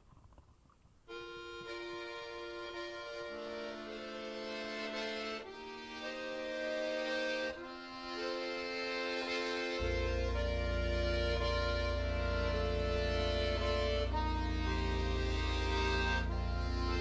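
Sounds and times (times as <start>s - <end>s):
celtic style background music: 1.1s - 17.0s.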